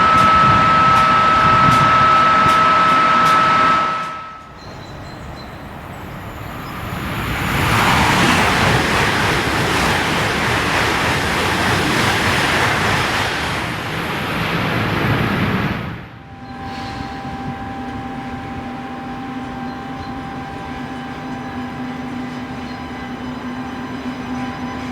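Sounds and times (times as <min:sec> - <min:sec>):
high-speed train passing: 0:00.0 - 0:24.9.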